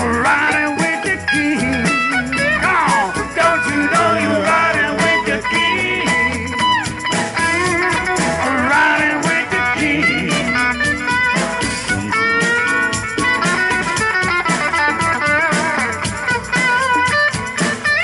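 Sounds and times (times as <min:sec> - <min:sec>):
conga drums: 0:00.0 - 0:18.0
drum kit: 0:00.0 - 0:18.0
electric guitar lead: 0:00.0 - 0:18.0.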